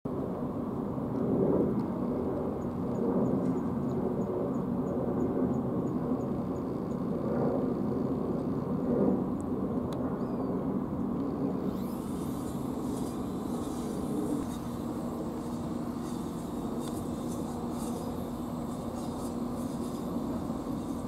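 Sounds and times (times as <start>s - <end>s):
low rumbling background noise: 0.1s - 21.0s.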